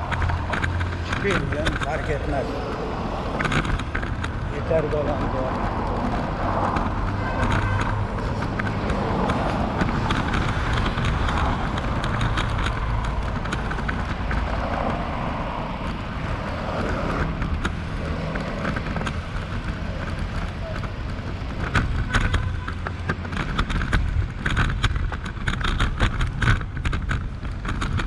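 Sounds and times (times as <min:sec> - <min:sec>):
bicycle clicks and rattles: 0:00.0 - 0:28.0
road rumble: 0:00.0 - 0:28.0
wind buffeting microphone: 0:00.0 - 0:28.0.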